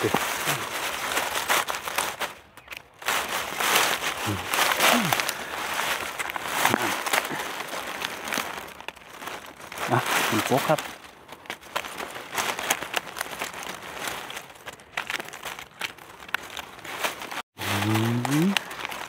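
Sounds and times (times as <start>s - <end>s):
dry leaves and twigs rustling: 0.0s - 19.0s.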